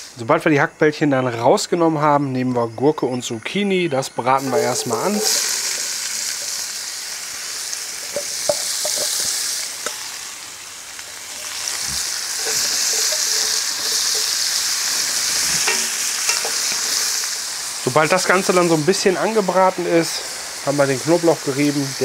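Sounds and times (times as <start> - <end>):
vegetables sizzling in hot oil: 4.3 - 22.0.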